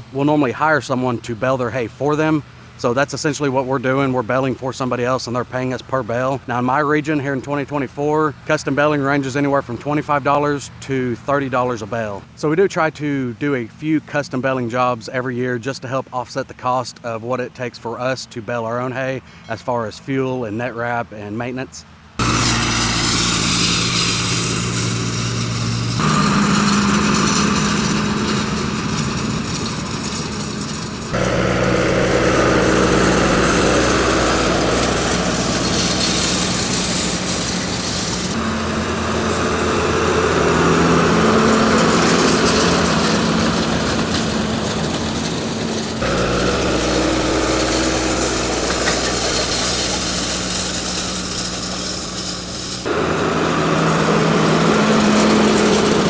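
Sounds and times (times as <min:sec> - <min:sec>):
tractor engine running: 0:00.0 - 0:12.3, 0:22.2 - 0:56.0.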